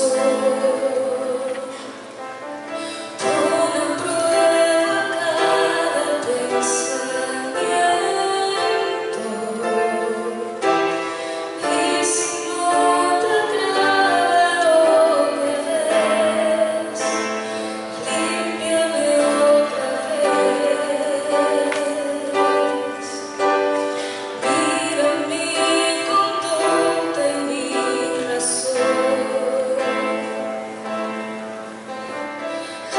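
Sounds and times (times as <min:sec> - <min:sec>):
woman singing: 0:00.0 - 0:01.9, 0:03.0 - 0:23.6, 0:24.3 - 0:30.5
musical accompaniment: 0:00.0 - 0:32.9.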